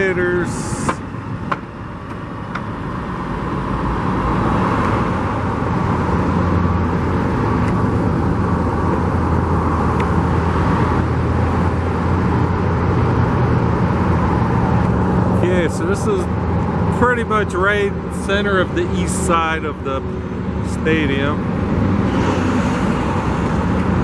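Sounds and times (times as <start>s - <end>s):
motor vehicles with tyre noise: 0.0s - 24.0s.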